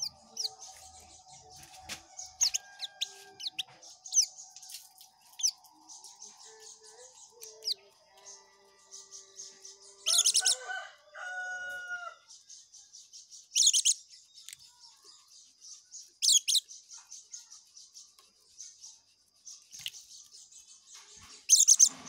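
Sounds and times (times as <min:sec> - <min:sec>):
bird chattering song: 0:00.0 - 0:22.0.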